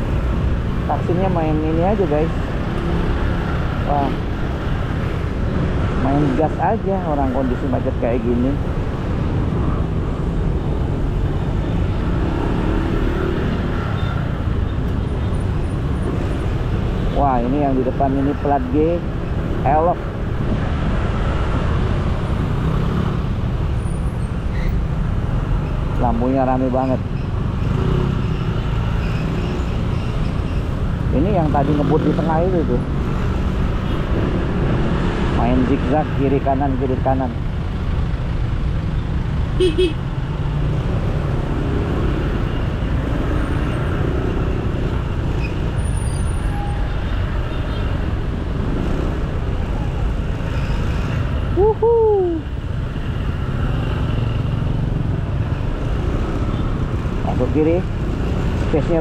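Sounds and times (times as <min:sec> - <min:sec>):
slow-moving traffic: 0:00.0 - 0:59.0.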